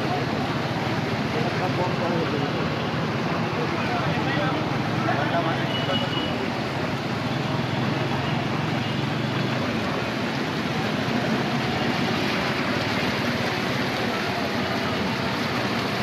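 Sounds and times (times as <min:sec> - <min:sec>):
floodwater rushing and sloshing: 0:00.0 - 0:16.0.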